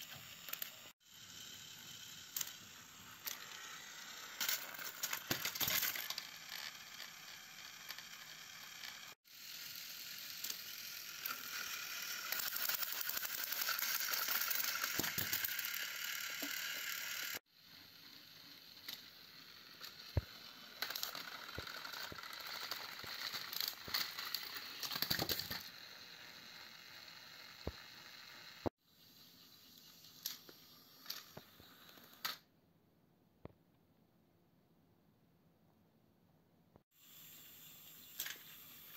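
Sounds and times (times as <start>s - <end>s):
toy train motors whirring: 0.0s - 32.5s, 36.9s - 38.9s.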